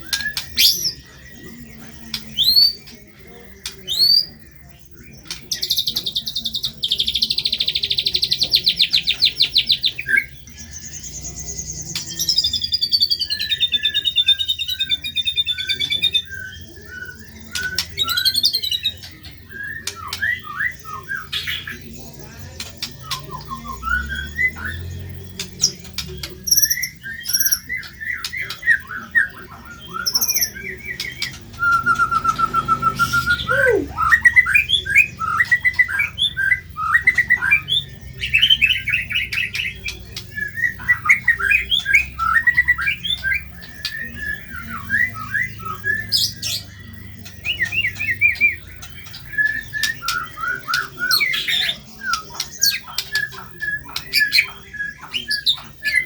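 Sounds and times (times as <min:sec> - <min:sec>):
songbird chirping and whistling: 0:00.0 - 0:56.0.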